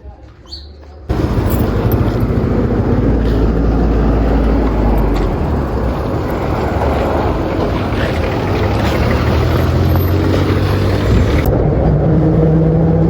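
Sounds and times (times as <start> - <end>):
vehicle engine and road rumble: 1.0 - 13.0.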